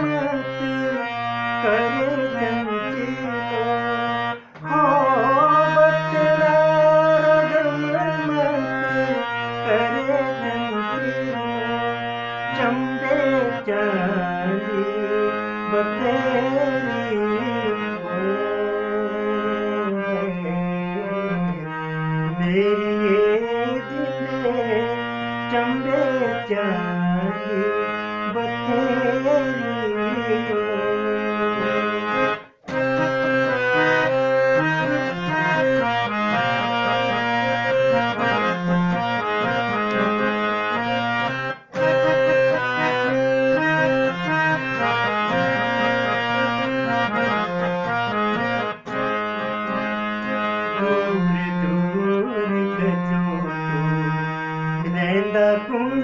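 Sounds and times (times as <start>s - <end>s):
harmonium playing: 0.0s - 56.0s
man singing: 0.0s - 56.0s.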